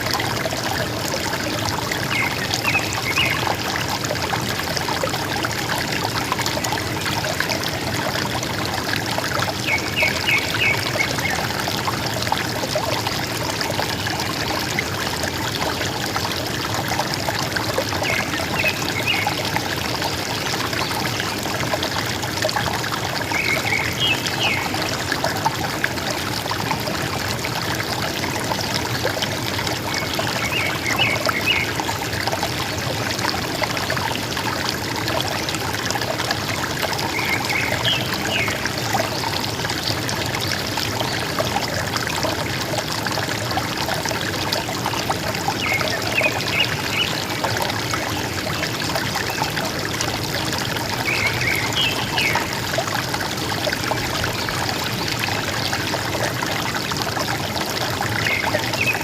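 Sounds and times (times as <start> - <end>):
river water gurgling: 0.0 - 59.0.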